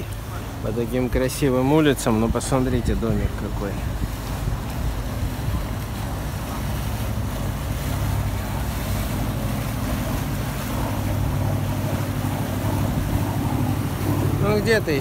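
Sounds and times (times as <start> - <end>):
boat engine humming: 0.0 - 15.0
wind noise on microphone: 2.0 - 15.0.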